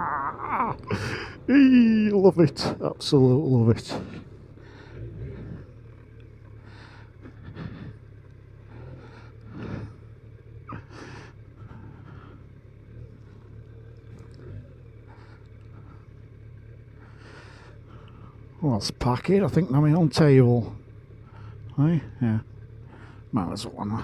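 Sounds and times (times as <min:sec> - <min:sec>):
motorcycle engine running: 0:00.0 - 0:24.0
vehicles passing by: 0:00.0 - 0:24.0.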